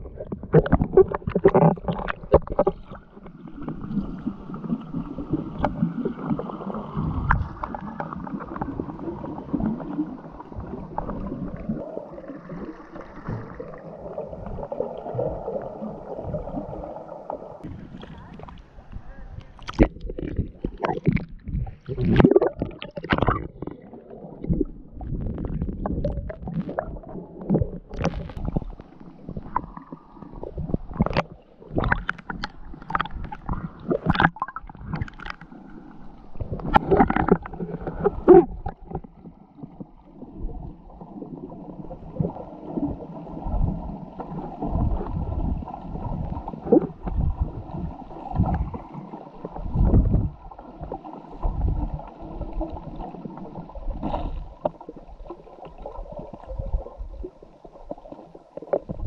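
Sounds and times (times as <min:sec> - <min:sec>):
water gurgling and sloshing: 0:00.0 - 0:59.0.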